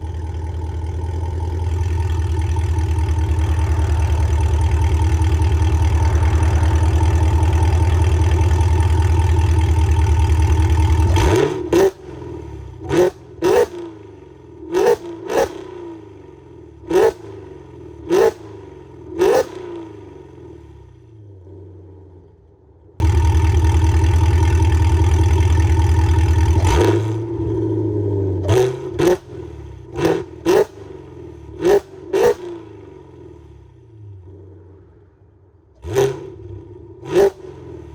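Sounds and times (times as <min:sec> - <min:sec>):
car engine revving: 0:00.0 - 0:22.1, 0:23.0 - 0:35.1, 0:35.8 - 0:37.9.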